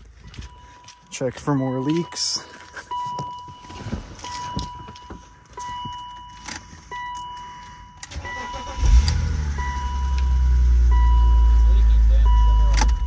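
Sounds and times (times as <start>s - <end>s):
warning chime beeping: 0.3s - 13.0s
car engine starting and idling: 2.2s - 13.0s.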